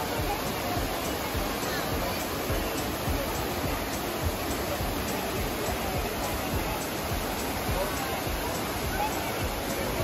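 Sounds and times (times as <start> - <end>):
fountain water cascading: 0.0 - 10.0.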